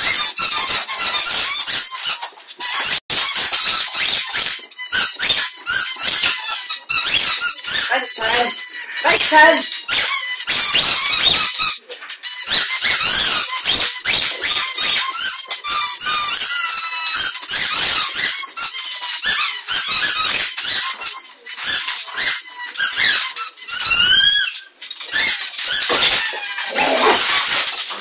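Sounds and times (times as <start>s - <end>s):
squeaky toys squeaking: 0.0s - 28.0s.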